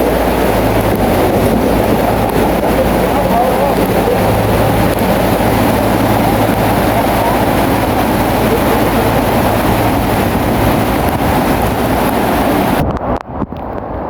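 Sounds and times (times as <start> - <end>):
bulldozer diesel engine running: 0.0 - 12.8.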